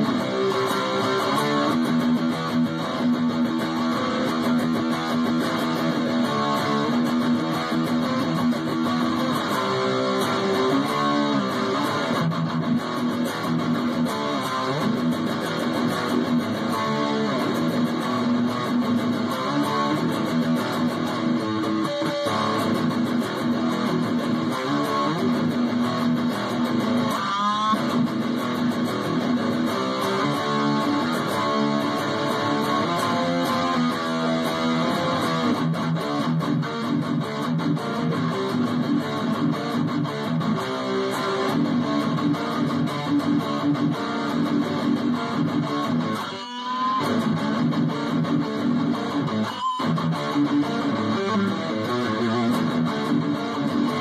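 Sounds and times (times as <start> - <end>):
electric guitar metal riffs: 0.0 - 54.0.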